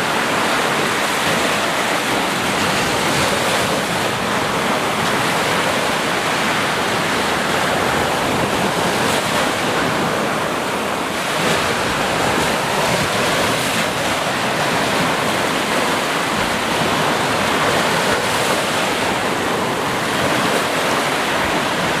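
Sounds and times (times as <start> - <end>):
waves washing in: 0.0 - 22.0.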